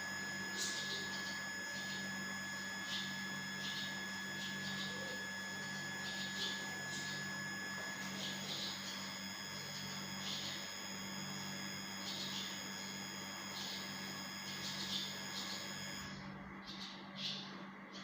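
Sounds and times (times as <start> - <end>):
bird chicks chirping: 2.8 - 7.3, 7.9 - 18.0.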